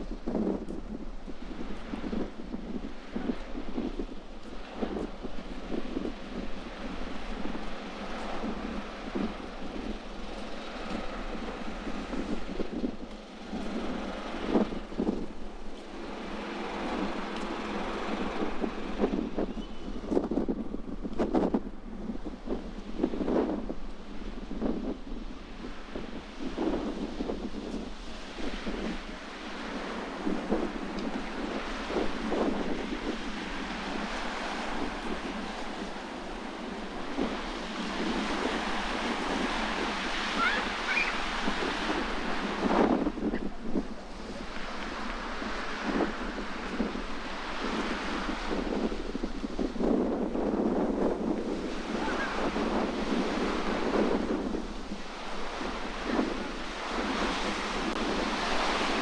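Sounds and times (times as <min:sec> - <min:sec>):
sea waves washing on shore: 0:00.0 - 0:59.0
steady outdoor rush: 0:00.0 - 0:59.0
wind buffeting microphone: 0:00.0 - 0:59.0.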